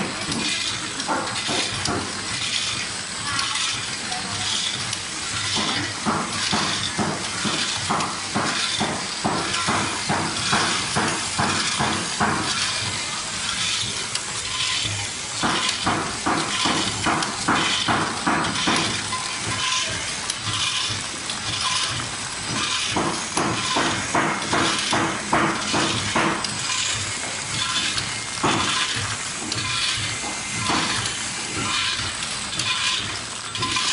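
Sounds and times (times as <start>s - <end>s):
packing machine clacking: 0.0s - 33.9s.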